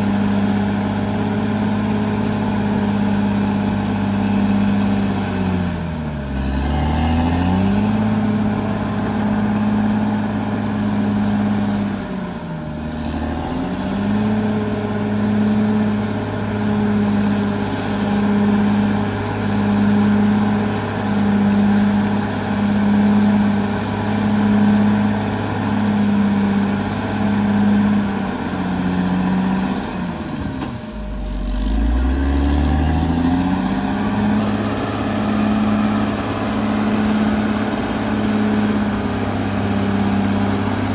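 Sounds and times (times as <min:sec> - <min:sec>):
bulldozer diesel engine running hard: 0:00.0 - 0:40.9.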